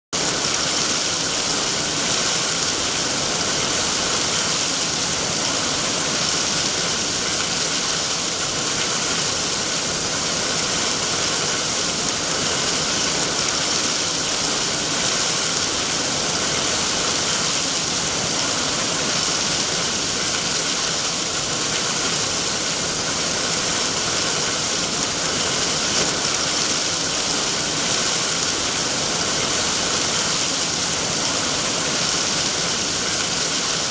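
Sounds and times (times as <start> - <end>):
heavy rain falling: 0.2 - 33.9.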